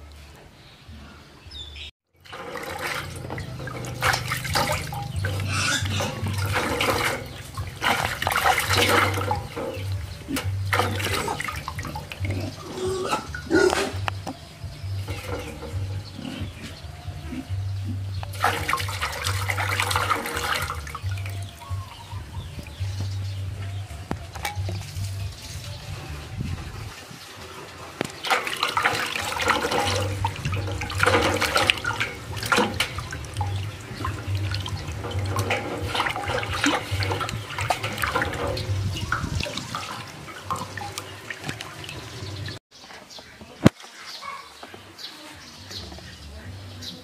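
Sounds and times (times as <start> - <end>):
water splashing in a basin: 2.1 - 42.6.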